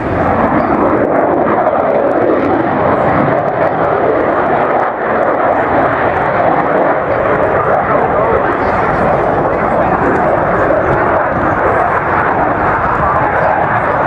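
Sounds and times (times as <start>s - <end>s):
jet aircraft engines roaring: 0.0s - 14.0s.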